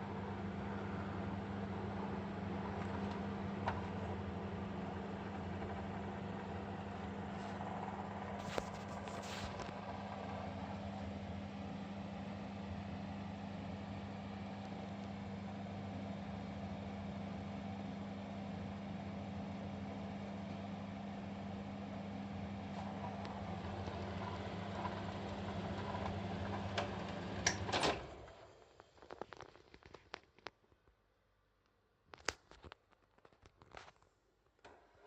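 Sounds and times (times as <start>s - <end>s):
ventilation fan hum and airflow: 0.0s - 28.4s.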